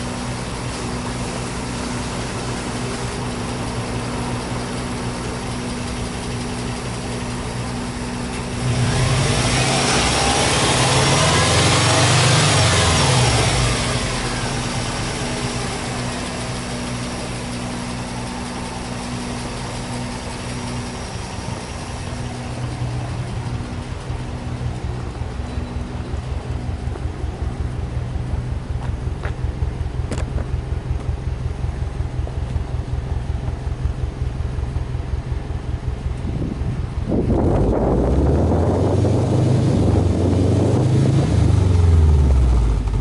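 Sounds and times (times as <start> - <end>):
car engine idling and revving: 0.0 - 43.0.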